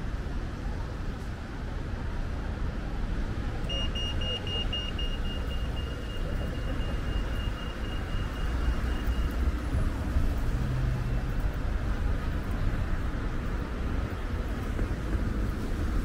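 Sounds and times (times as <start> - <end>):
road traffic on wet streets: 0.0 - 16.0.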